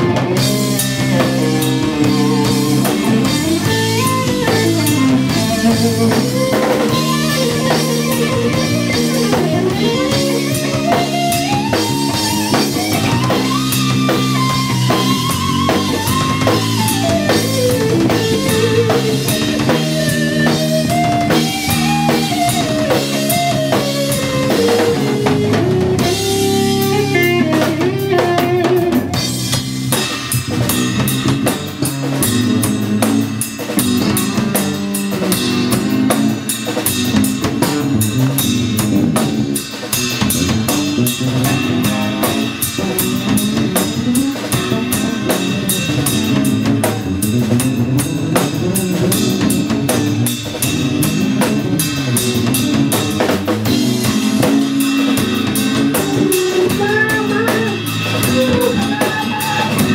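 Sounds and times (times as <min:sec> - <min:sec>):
bass: 0:00.0 - 0:59.9
drum kit cymbals and snare: 0:00.0 - 0:59.9
lead instrument melody: 0:00.0 - 0:59.9.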